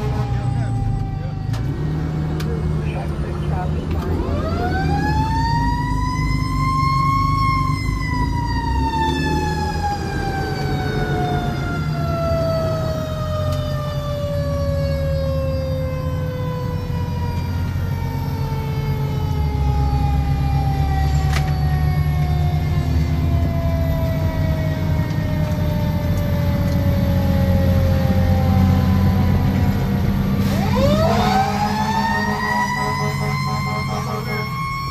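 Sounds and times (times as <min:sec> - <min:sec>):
mechanical siren wailing: 0:00.0 - 0:02.3, 0:04.2 - 0:34.9
truck diesel engine: 0:00.0 - 0:34.9.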